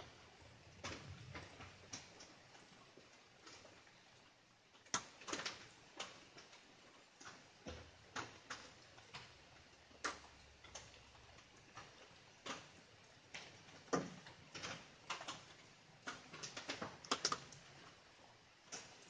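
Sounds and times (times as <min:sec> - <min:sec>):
faint rain hiss: 0:00.0 - 0:19.0
raindrops tapping: 0:00.0 - 0:19.0.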